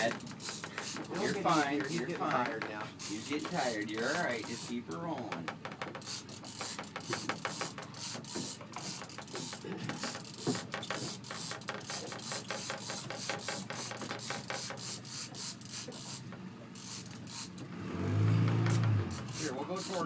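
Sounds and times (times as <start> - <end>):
fishing reel clicking rapidly: 0.0 - 2.4, 3.0 - 5.1, 5.9 - 16.2, 16.8 - 17.6, 18.7 - 20.0.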